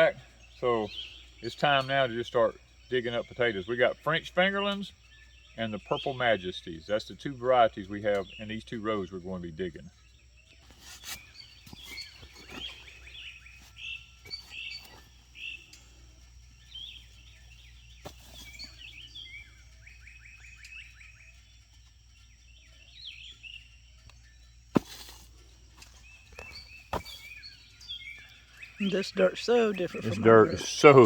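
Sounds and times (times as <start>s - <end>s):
bird trill: 0.0s - 31.0s
small birds chirping: 0.0s - 31.0s.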